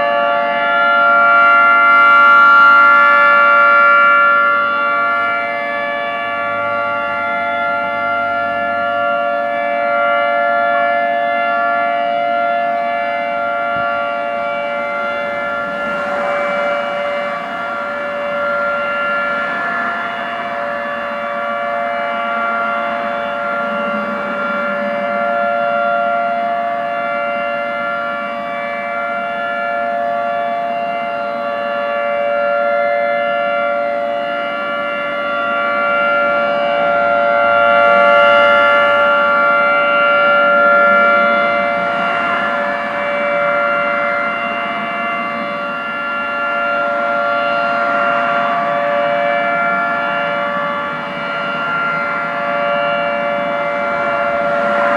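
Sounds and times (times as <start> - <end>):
dual-tone warning siren: 0.0 - 54.9.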